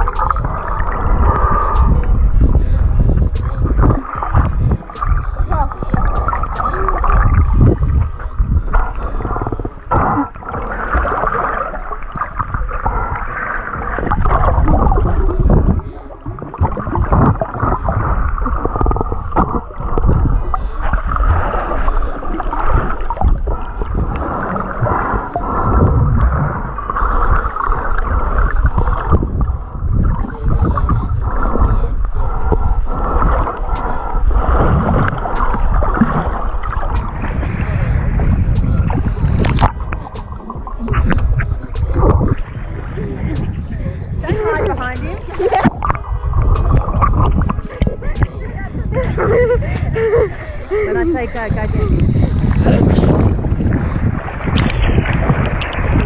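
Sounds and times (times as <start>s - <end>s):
muffled underwater gurgling: 0.0s - 56.0s.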